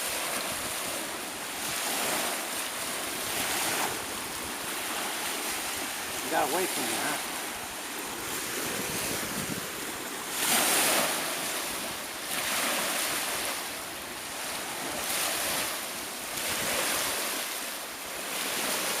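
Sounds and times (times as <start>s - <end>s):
surf washing on shore: 0.0s - 19.0s.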